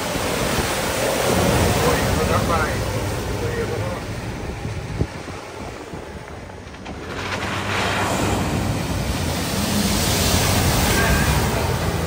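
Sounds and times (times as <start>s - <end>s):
vehicle driving through water: 0.0s - 12.0s
water splashing and surging: 0.0s - 12.0s
wind on microphone: 0.0s - 12.0s.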